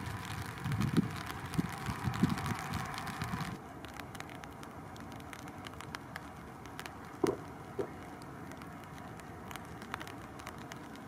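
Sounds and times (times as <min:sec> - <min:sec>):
distant jet engines humming: 0:00.0 - 0:11.0
faint ticks: 0:00.2 - 0:11.0.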